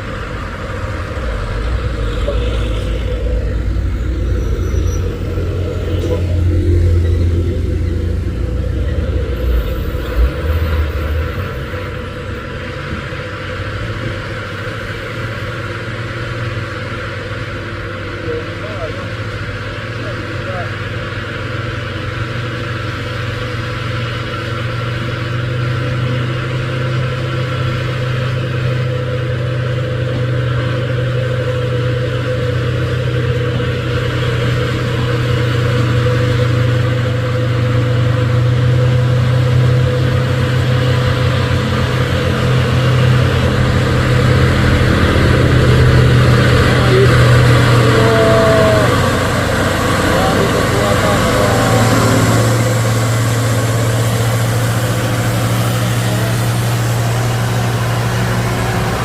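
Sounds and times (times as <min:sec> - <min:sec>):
truck diesel engine labouring: 0:00.0 - 0:59.0.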